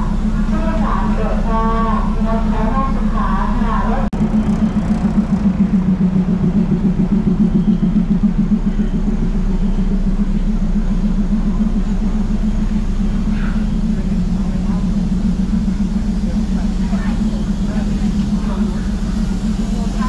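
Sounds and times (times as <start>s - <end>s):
diesel railcar engine idling: 0.0s - 20.0s.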